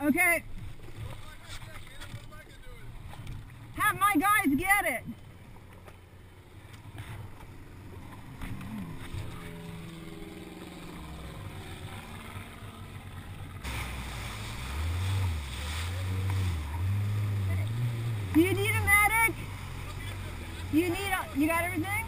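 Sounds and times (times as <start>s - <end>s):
jet ski engine: 0.0s - 22.0s
water rushing: 0.0s - 22.0s.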